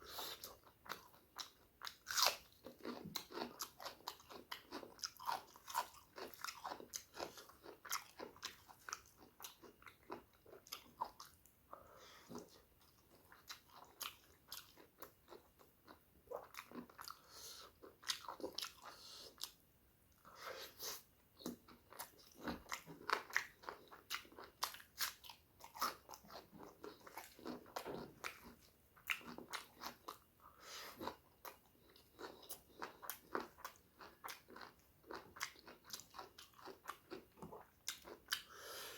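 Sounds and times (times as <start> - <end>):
person chewing close to microphone: 0.2 - 19.6, 20.6 - 38.6.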